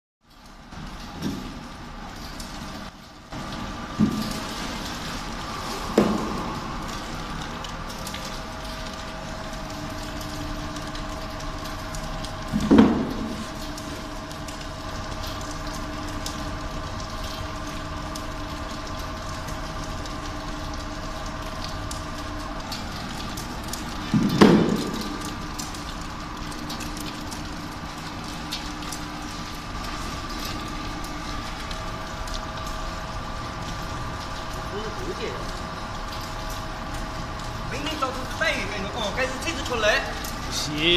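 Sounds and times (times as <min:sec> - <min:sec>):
oil press humming: 0:00.5 - 0:40.9.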